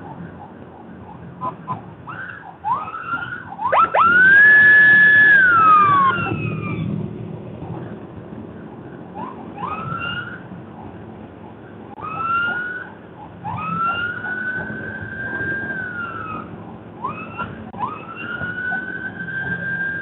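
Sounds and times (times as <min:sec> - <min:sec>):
police siren whooping and wailing: 0:00.0 - 0:07.1, 0:09.1 - 0:20.0
engine and road noise: 0:00.0 - 0:20.0.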